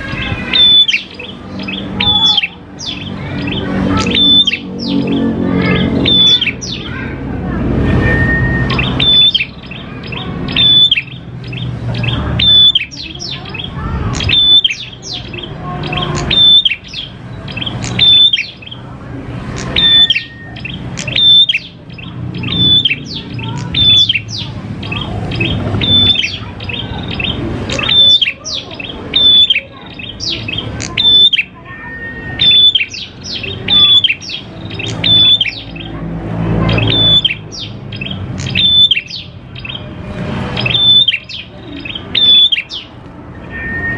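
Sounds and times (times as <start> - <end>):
songbird calling: 0.1 - 7.1, 8.1 - 18.9, 19.5 - 36.0, 36.6 - 40.0, 40.6 - 43.9.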